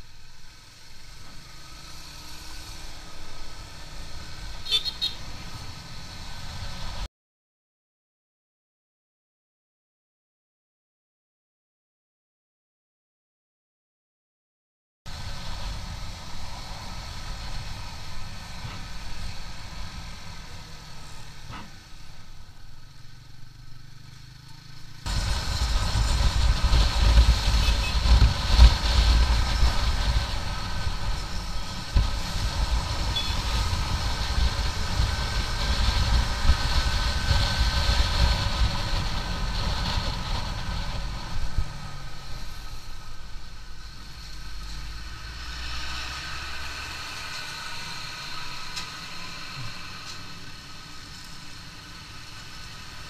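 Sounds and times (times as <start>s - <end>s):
heavy vehicle rumble: 0.0s - 7.1s, 15.1s - 53.0s.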